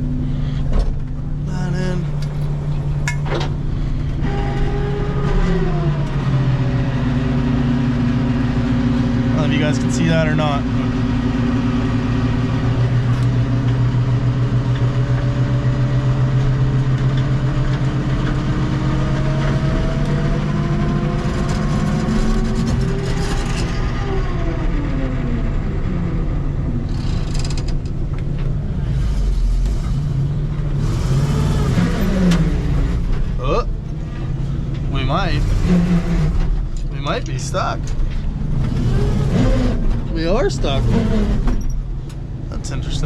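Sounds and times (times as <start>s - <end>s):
dump truck engine revving: 0.0s - 43.0s.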